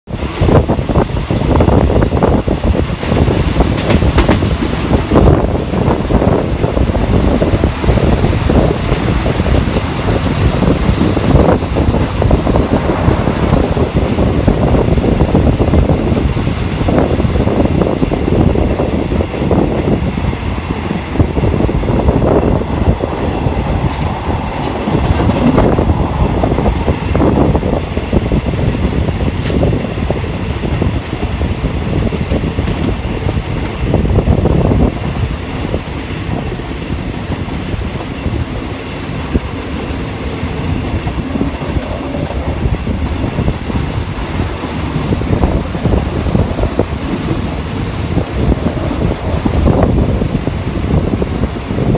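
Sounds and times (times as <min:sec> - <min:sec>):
rushing wind: 0:00.0 - 0:51.9
train wheels rumbling on rail: 0:00.0 - 0:51.9.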